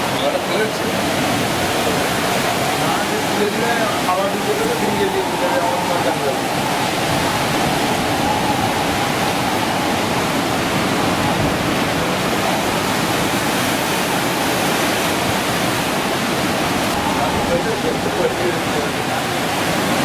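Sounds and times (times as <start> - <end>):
water rushing in a rainstorm: 0.0 - 20.0.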